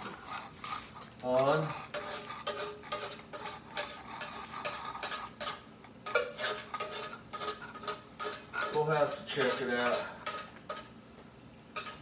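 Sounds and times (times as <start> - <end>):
metal spoon scraping a can: 0.0 - 10.9, 11.8 - 12.0.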